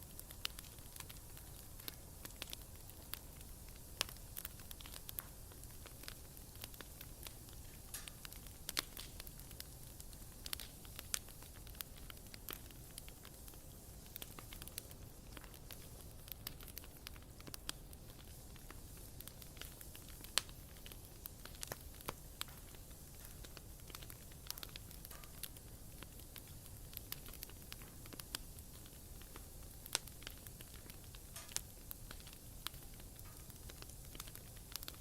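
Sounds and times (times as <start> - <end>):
bonfire flame rumble: 0.0 - 35.0
burning wood crackling and popping: 0.0 - 35.0.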